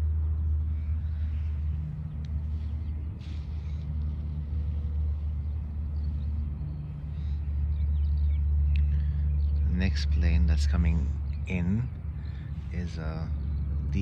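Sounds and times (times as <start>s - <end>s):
distant aircraft engine rumble: 0.0s - 14.0s.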